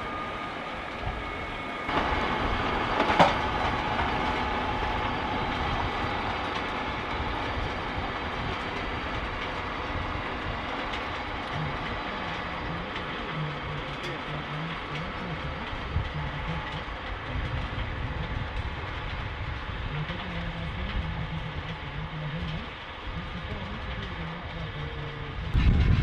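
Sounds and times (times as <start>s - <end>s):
tractor engine rumbling clatter: 0.0s - 26.0s.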